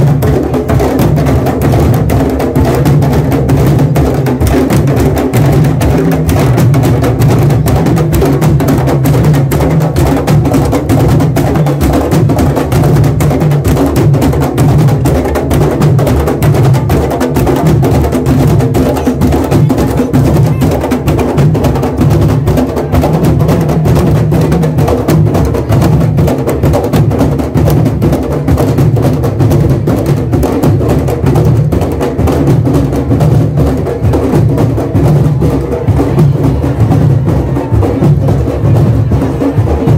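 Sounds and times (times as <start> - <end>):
deep drum beats: 0.0 - 39.9
drum line playing: 0.0 - 39.9.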